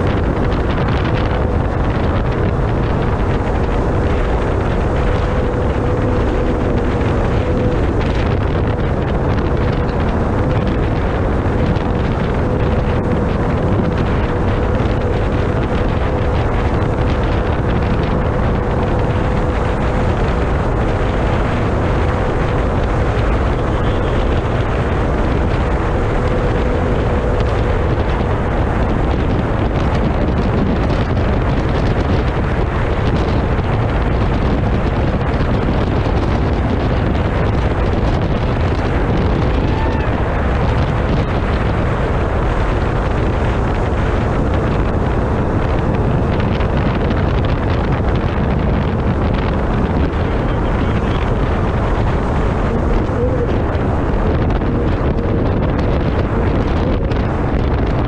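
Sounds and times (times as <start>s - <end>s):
outboard motor roaring: 0.0s - 58.0s
wind buffeting microphone: 0.0s - 58.0s.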